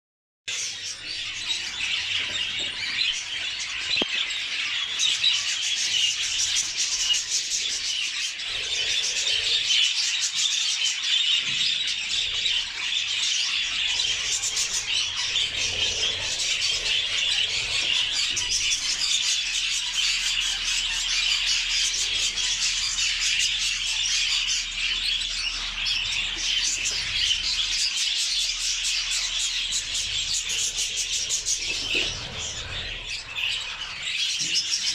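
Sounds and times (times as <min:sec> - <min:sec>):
budgerigars chattering: 0:00.5 - 0:34.9.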